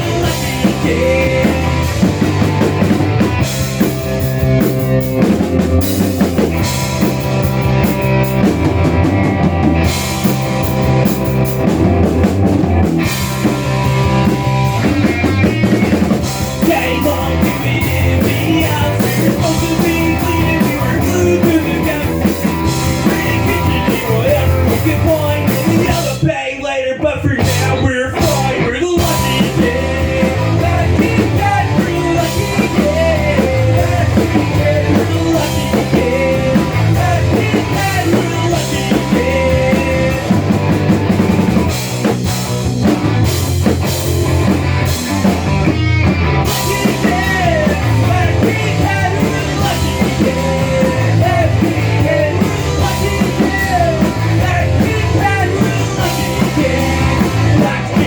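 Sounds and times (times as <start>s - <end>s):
punk rock band playing: 0.0s - 58.0s.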